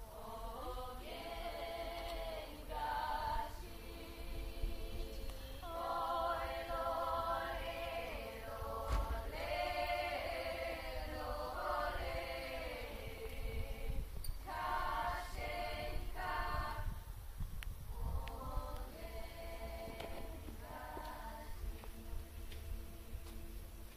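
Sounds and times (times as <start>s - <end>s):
women singing in close harmony: 0.0s - 17.1s, 17.9s - 23.6s.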